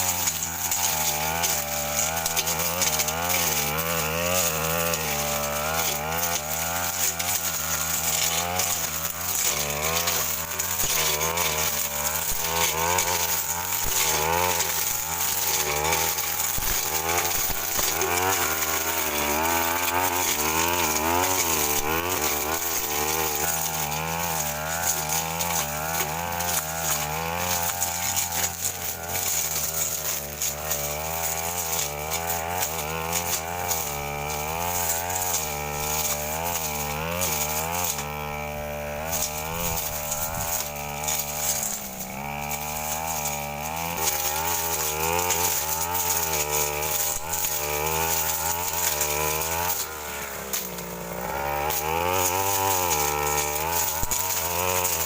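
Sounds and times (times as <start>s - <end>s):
brush cutter engine cutting brush: 0.0s - 55.0s.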